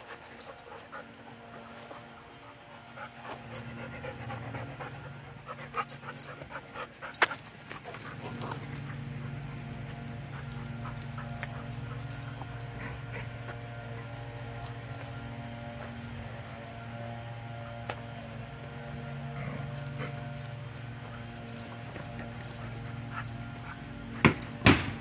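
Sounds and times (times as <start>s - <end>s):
dog panting: 0.0s - 18.1s, 18.7s - 25.0s
steady low hum: 0.0s - 25.0s.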